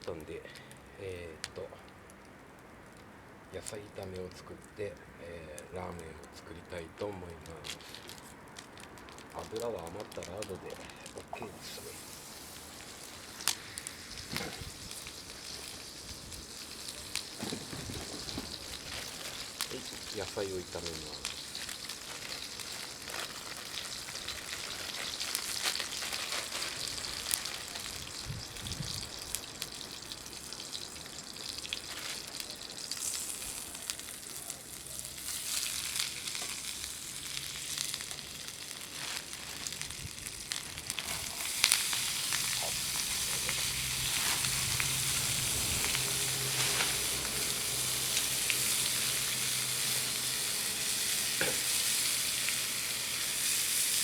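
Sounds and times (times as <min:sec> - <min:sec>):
vegetables sizzling in a pan: 0:08.8 - 0:54.0.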